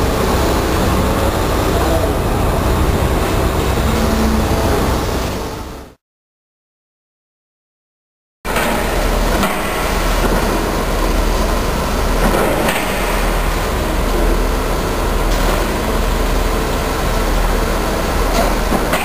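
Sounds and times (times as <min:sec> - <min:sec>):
excavator diesel engines rumbling: 0:00.0 - 0:06.0, 0:08.5 - 0:19.0.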